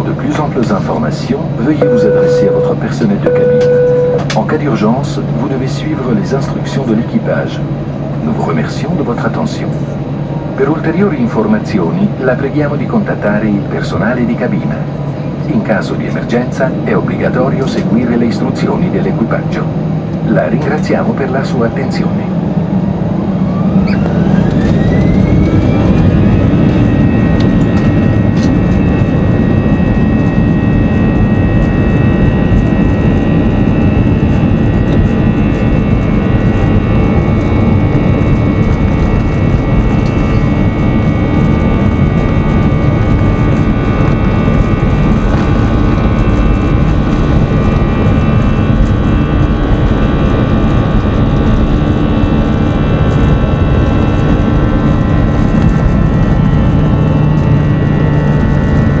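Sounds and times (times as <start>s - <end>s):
jet engines roaring and whining: 0.0s - 59.0s.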